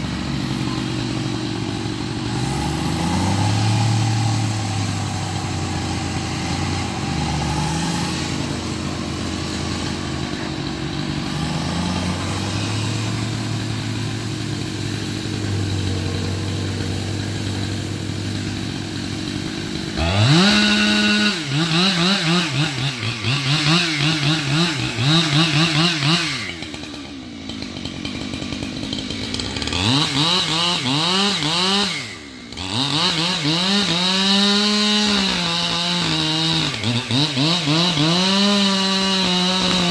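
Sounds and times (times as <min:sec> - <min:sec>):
engine idling: 0:00.0 - 0:34.0
chainsaw cutting wood: 0:00.0 - 0:39.9.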